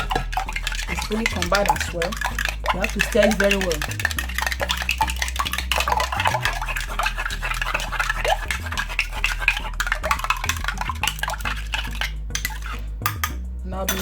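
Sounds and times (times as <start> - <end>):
utensil beating eggs in a bowl: 0.0 - 14.0.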